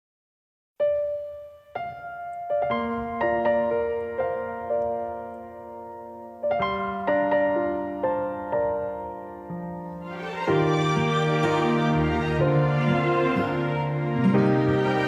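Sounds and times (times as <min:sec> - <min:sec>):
piano notes and chords: 0:00.8 - 0:15.0.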